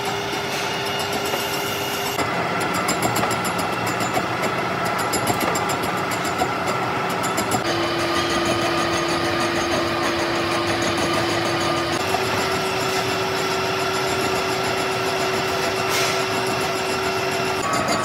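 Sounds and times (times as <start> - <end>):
metal-working machine running: 0.0 - 18.0.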